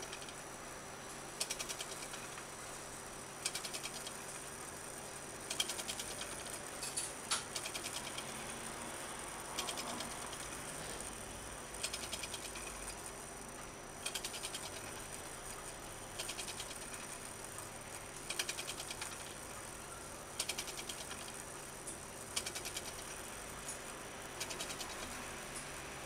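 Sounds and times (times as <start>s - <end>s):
clock gear and ratchet clicking: 0.0s - 0.5s, 1.3s - 2.6s, 3.2s - 26.0s.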